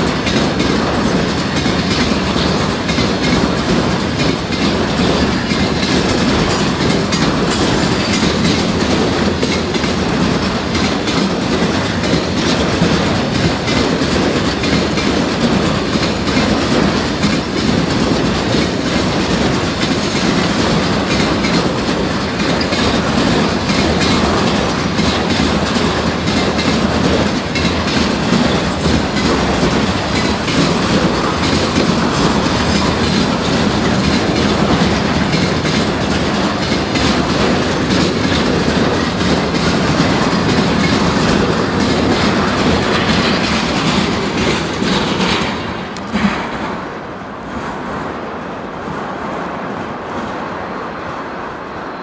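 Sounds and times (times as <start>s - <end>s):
train rumble: 0.0s - 52.0s
train wheels clattering on rails: 0.0s - 52.0s.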